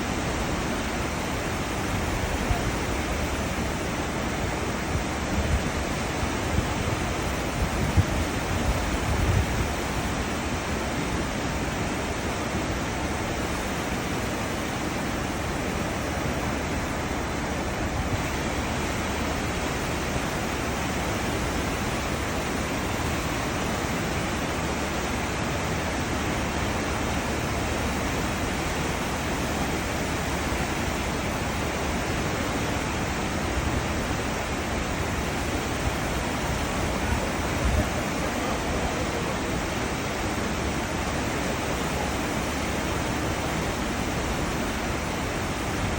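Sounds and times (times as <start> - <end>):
churning seawater rushing: 0.0 - 45.9.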